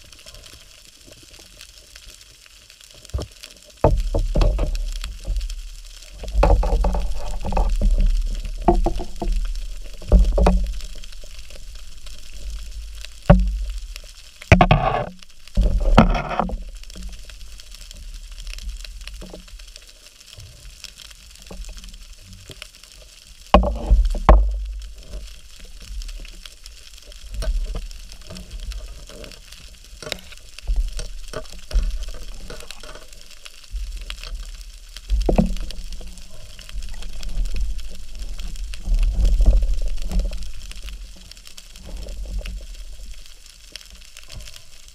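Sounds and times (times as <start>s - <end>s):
underwater rumble and bubbling: 0.0s - 44.9s.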